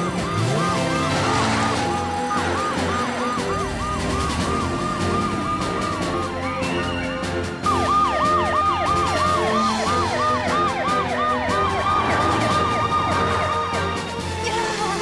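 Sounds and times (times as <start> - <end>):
fast sweeping cartoon siren: 0.0 - 14.1
slower wailing siren: 0.0 - 14.1.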